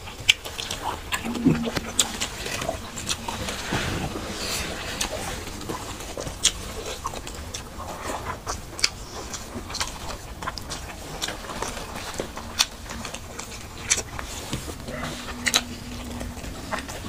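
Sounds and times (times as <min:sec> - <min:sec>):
close-up chewing: 0:00.0 - 0:02.0, 0:03.1 - 0:17.0.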